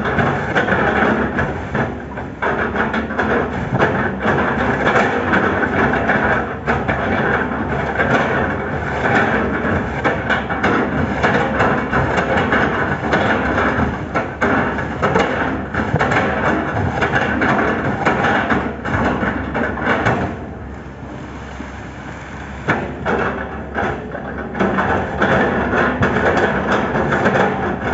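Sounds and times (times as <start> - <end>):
diesel engine under load: 0.0 - 27.9.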